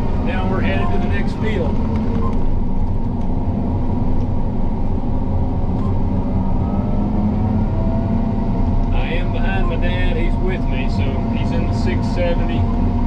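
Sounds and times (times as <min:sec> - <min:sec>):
combine engine and machinery hum: 0:00.0 - 0:13.0.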